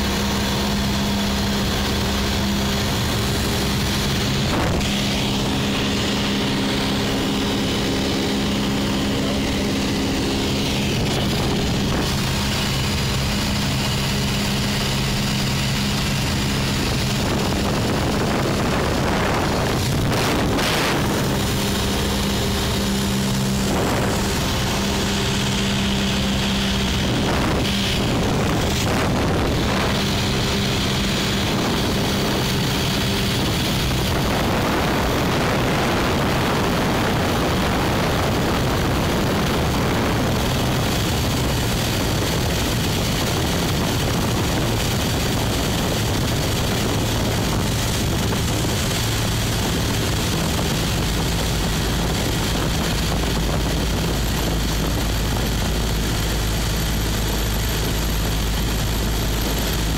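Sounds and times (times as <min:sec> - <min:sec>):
propeller airplane engine droning: 0:00.0 - 0:59.9.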